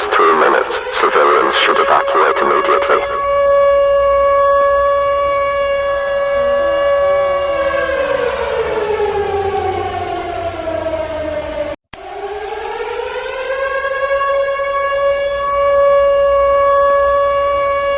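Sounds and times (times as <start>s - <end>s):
civil defense siren: 0.0s - 17.9s.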